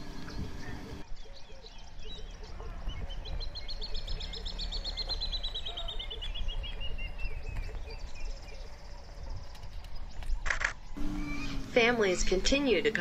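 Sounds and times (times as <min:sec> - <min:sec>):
wild birds calling: 0:00.0 - 0:13.0.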